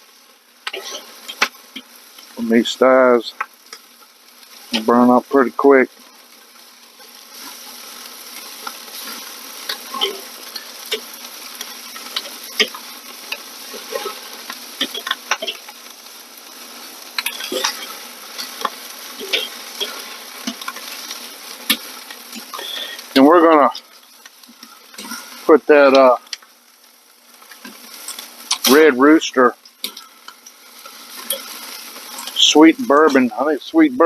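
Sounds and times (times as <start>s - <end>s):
chicken sizzling over charcoal: 0.0s - 34.0s
fat popping on hot coals: 0.1s - 5.2s, 5.8s - 33.3s.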